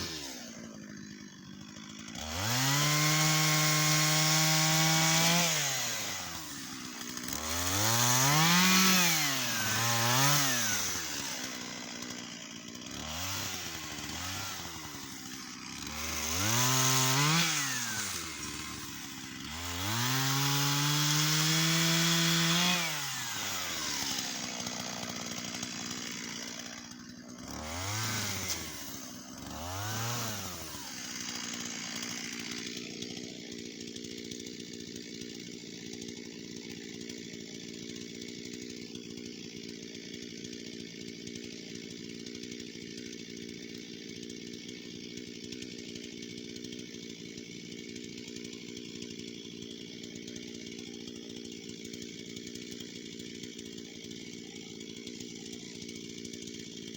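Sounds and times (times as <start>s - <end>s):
chainsaw revving and idling: 0.0s - 56.9s.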